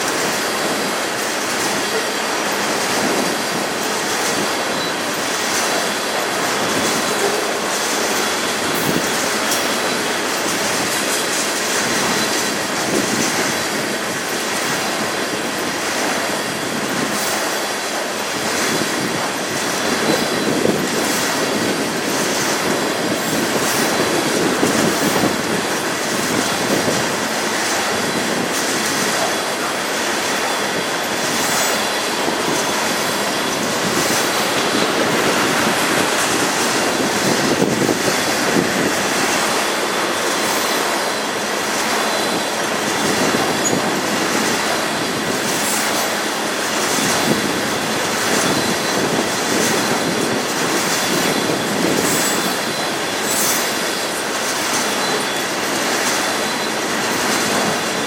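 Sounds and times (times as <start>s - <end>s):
train wheels rumbling on rail: 0.0s - 58.0s
wheels clacking over rail joints: 0.0s - 58.0s.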